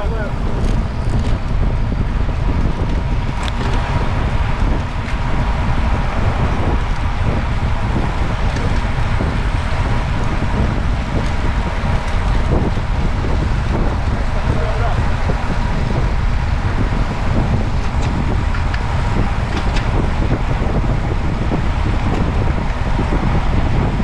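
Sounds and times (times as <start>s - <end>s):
road traffic rumble: 0.0s - 24.0s
wind on microphone: 0.0s - 24.0s.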